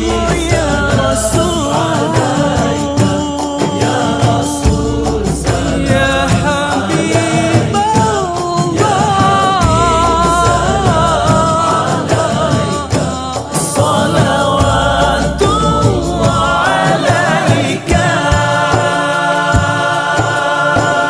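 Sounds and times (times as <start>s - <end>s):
song with singing voices: 0.0s - 21.0s.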